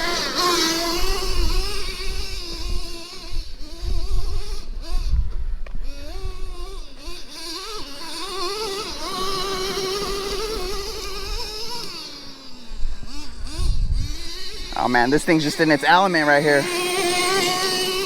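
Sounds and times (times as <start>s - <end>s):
small two-stroke engine buzzing: 0.0s - 18.0s.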